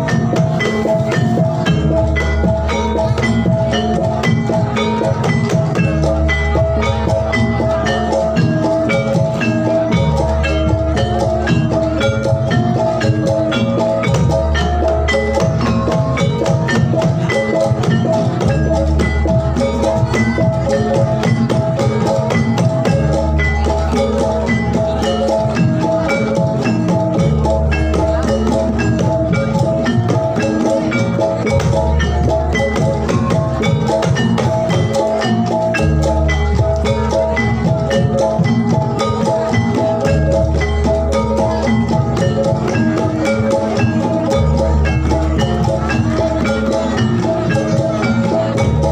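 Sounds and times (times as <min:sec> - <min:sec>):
drums: 0:00.0 - 0:48.9
struck metallophone notes: 0:00.0 - 0:48.9.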